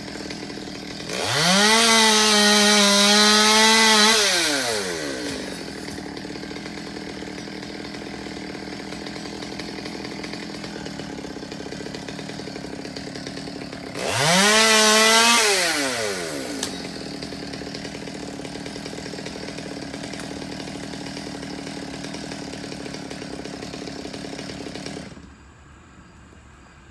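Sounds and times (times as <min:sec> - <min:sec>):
chainsaw idling and revving: 0:00.0 - 0:25.5.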